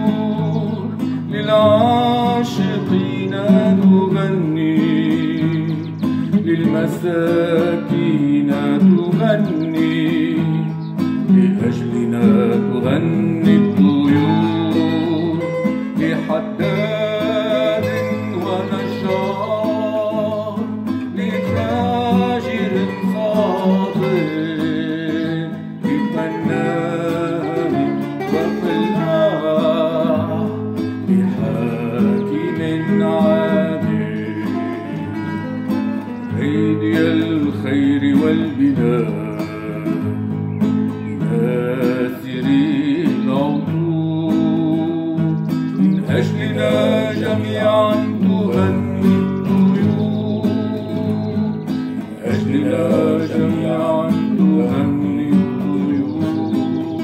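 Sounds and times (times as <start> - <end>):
classical guitar playing: 0.0 - 57.0.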